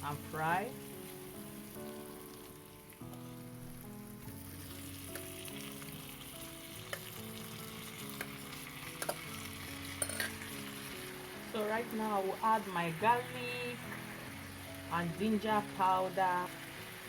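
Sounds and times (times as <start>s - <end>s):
fish sizzling in a pan: 0.0s - 17.0s
soft background music: 0.0s - 17.0s.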